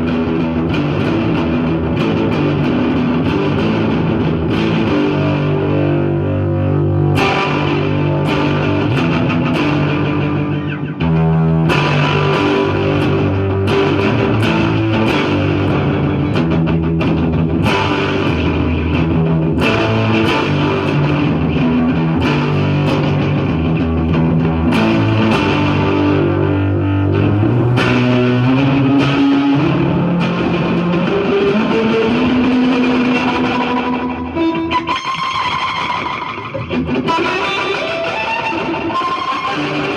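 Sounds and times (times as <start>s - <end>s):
distorted electric guitar with delay: 0.0s - 39.9s.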